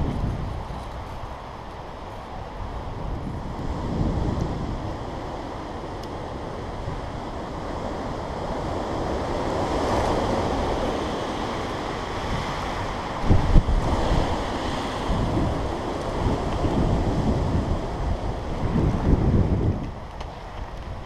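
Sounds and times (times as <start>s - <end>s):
strong wind blowing: 0.0s - 21.0s
wind gust buffeting microphone: 0.0s - 21.0s.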